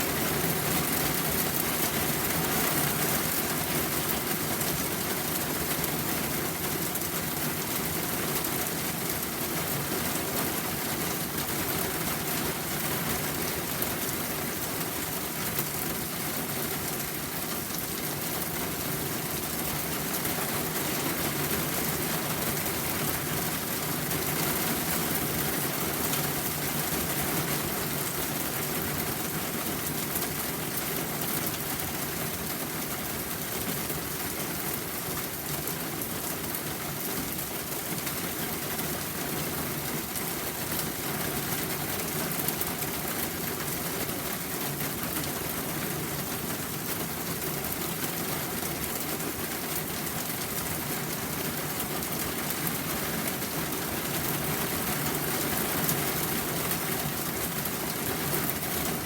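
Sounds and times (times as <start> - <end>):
rain hissing and pattering: 0.0 - 59.0.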